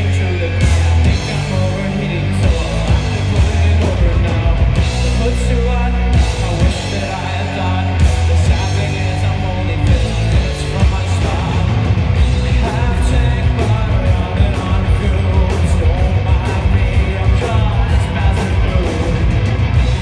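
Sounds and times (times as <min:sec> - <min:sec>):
distorted rock band playing: 0:00.0 - 0:20.0
heavy bass line: 0:00.0 - 0:20.0
steady drum beat: 0:00.0 - 0:20.0.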